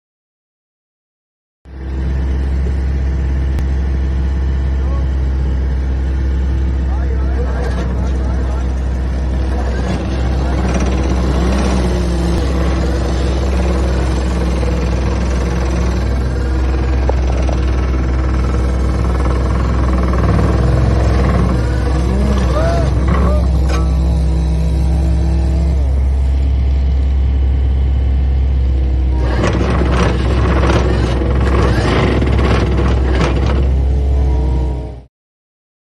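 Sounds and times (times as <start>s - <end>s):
machine engine humming: 1.7s - 35.1s.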